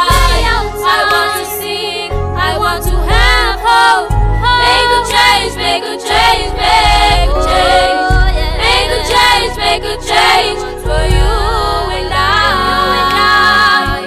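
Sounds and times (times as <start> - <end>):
backing track with bass line: 0.0 - 14.0
voices singing: 0.0 - 14.0.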